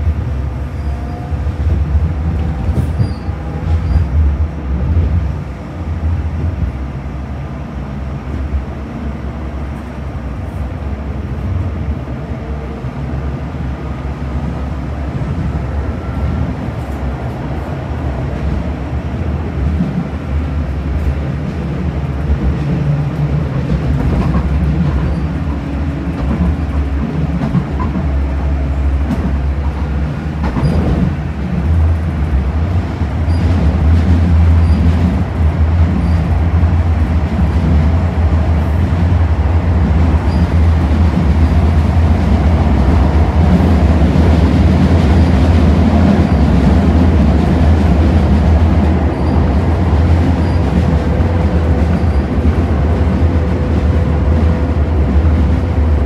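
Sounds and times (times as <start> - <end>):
tram wheels rumbling on rail: 0.0 - 56.0.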